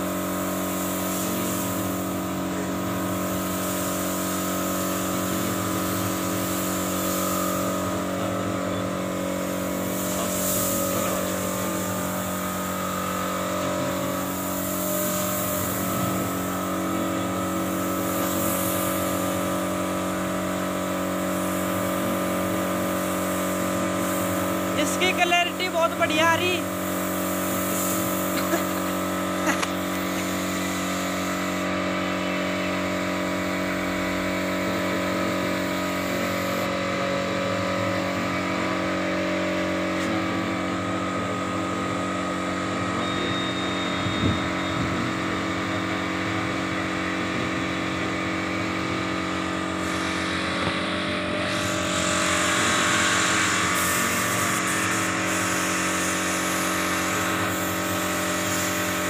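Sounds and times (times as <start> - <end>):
spray gun hissing: 0.0 - 43.8, 45.2 - 59.0
air compressor motor humming: 0.0 - 59.0.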